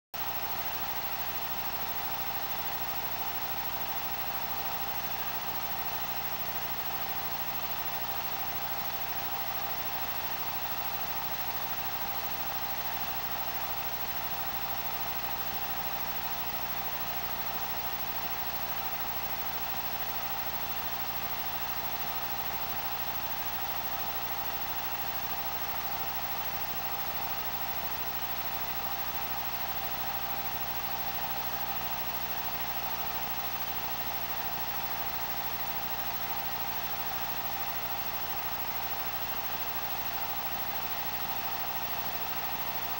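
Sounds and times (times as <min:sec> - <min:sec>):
film projector whirring: 0:00.2 - 0:42.9.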